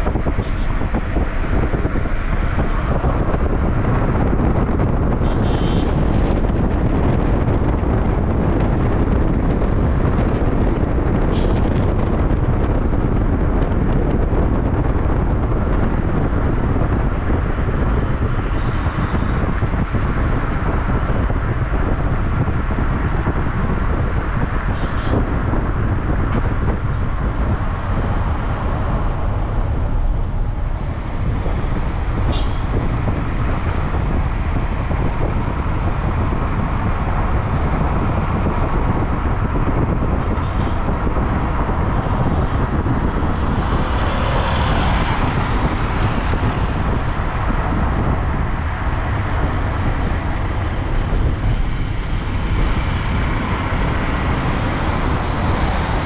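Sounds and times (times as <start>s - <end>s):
road and traffic noise: 0.0s - 56.0s.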